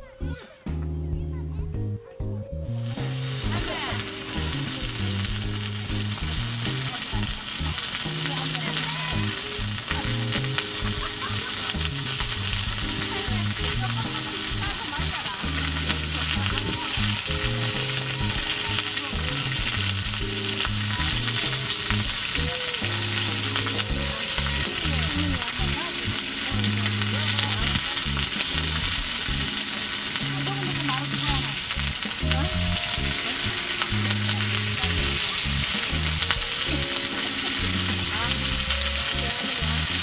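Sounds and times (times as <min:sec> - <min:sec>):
beef sizzling in grill pan: 0:02.7 - 0:40.0.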